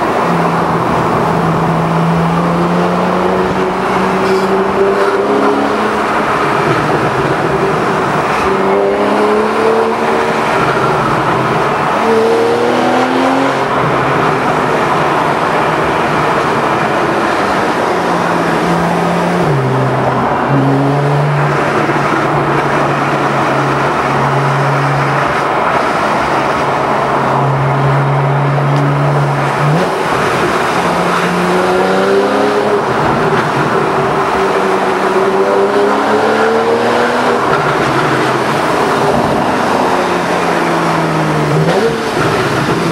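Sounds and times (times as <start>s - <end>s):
car engine revving through gears: 0.0s - 42.9s.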